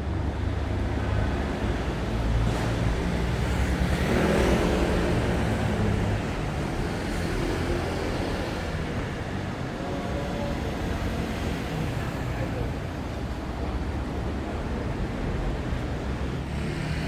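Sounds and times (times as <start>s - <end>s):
faint voices of passers-by: 0.0s - 17.0s
low rumble of traffic: 0.0s - 17.0s.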